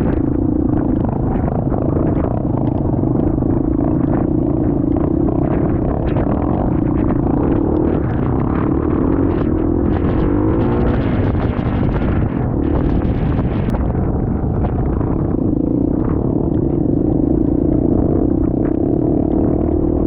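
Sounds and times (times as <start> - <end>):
motorcycle engine running: 0.0 - 20.0
rumbling wind and road noise: 0.0 - 20.0.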